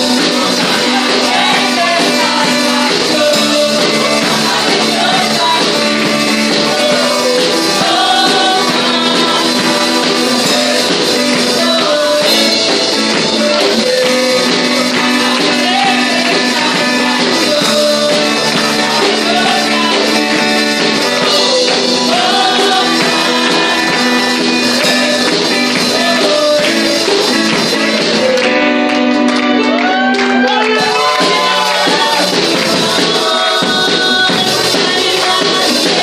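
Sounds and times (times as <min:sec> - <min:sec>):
girls singing into microphones: 0:00.0 - 0:28.6, 0:31.0 - 0:36.0
keyboard guitar and drums: 0:00.0 - 0:36.0.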